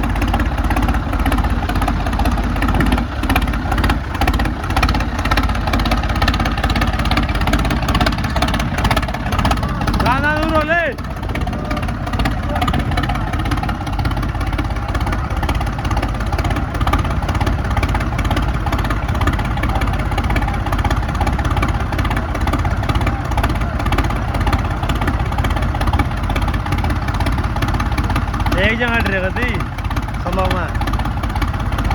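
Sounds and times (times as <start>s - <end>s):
tractor diesel engine droning: 0.0s - 31.9s.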